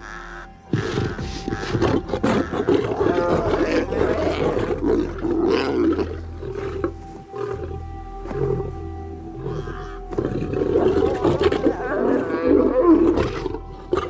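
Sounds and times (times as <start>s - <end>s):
background music: 0.0s - 14.0s
lioness snarling and growling: 0.7s - 8.8s, 9.4s - 14.0s.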